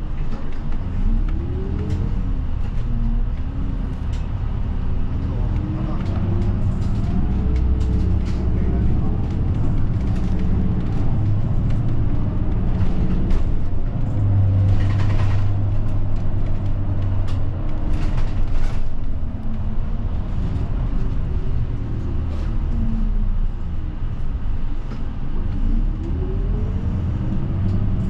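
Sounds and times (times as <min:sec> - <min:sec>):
bus diesel engine humming: 0:00.0 - 0:28.0.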